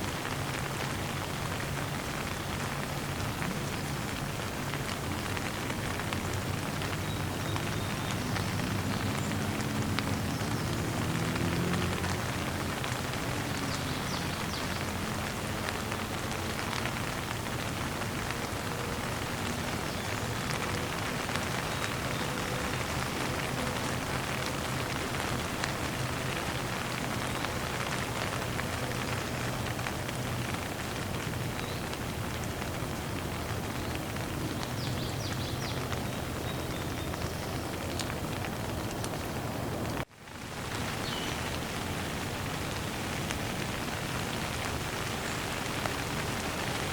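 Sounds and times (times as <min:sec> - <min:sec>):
rain pattering on ground: 0:00.0 - 0:46.9.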